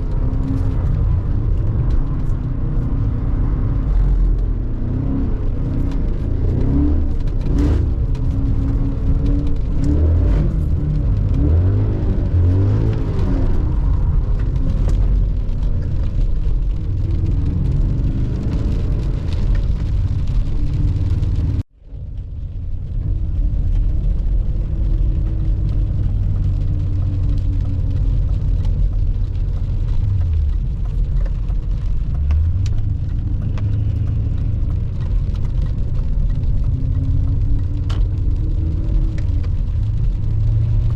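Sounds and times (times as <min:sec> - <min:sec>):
car engine revving: 0:00.0 - 0:21.7, 0:22.4 - 0:40.9
road noise drone: 0:00.0 - 0:40.9.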